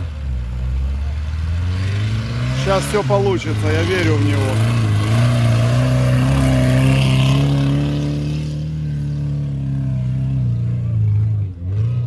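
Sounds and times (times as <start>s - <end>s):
car engine revving hard: 1.4s - 12.0s.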